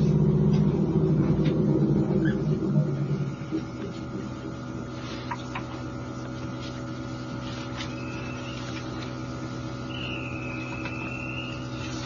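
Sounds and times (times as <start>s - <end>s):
electric train equipment hum: 0.0s - 12.0s.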